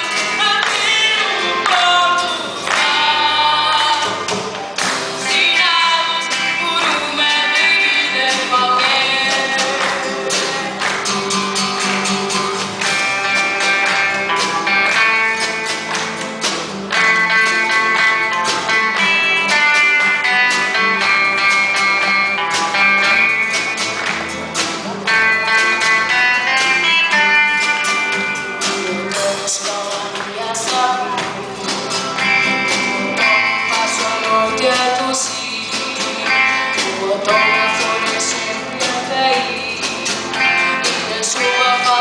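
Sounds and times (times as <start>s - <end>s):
guitar picked notes and chords: 0.0s - 42.0s.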